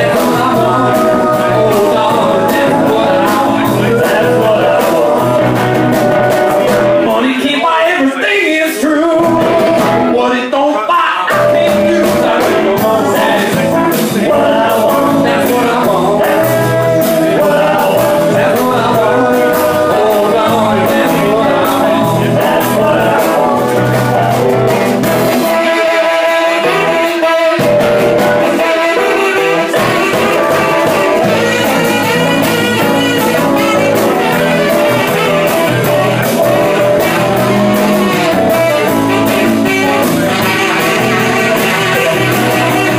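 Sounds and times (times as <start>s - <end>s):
saxophone melody: 0.0s - 7.1s, 11.3s - 42.9s
live band playing: 0.0s - 10.4s, 11.2s - 42.9s.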